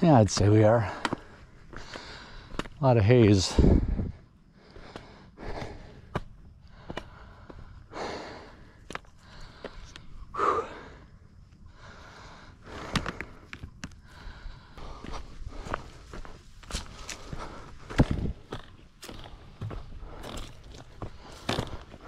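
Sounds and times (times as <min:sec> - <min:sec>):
footsteps on rock and dirt: 0:00.0 - 0:07.8, 0:08.5 - 0:10.1, 0:12.7 - 0:22.0
person breathing heavily: 0:00.6 - 0:22.0.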